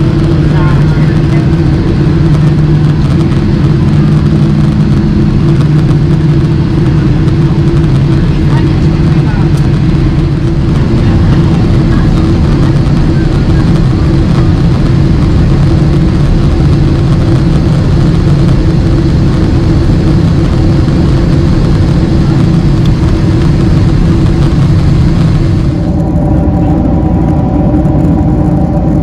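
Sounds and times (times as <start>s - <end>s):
airplane cabin engine noise: 0.0s - 29.0s.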